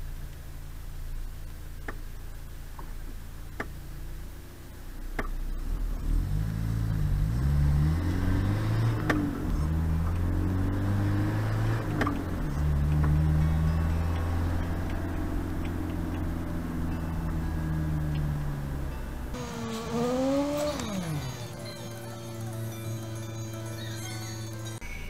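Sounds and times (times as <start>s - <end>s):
car engine idling and accelerating: 0.0s - 25.0s.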